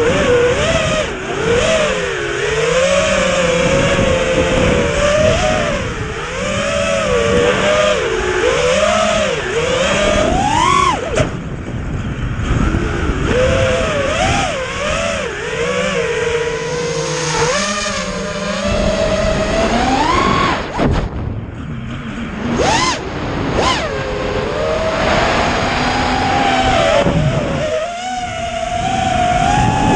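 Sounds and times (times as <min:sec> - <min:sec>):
quadcopter motors whining: 0:00.0 - 0:29.9.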